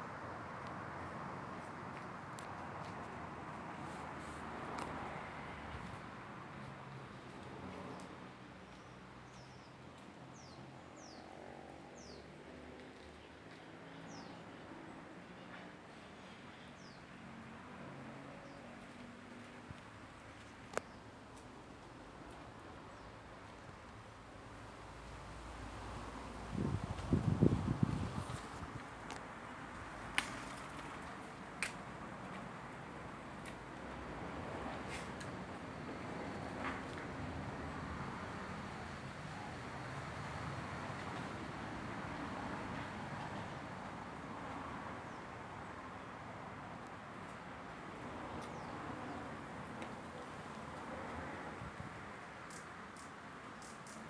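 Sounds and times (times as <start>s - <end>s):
faint background noise: 0.0s - 54.0s.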